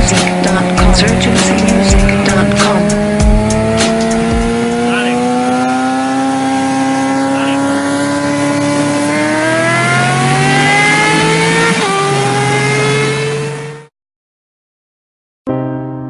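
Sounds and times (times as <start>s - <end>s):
vehicle engine accelerating hard: 0.0s - 13.9s.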